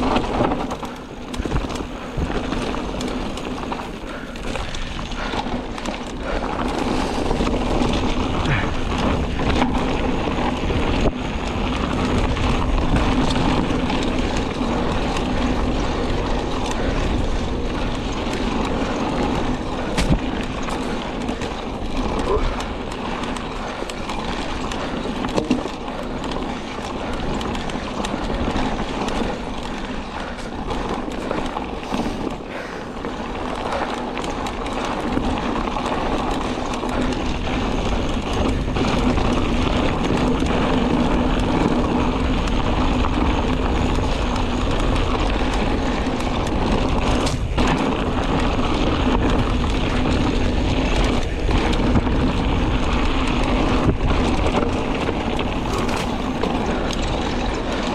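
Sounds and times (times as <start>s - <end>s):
bike clicks and rattles: 0.0s - 57.9s
bike tyres rumbling on gravel: 0.0s - 57.9s
wind noise on microphone: 0.0s - 57.9s.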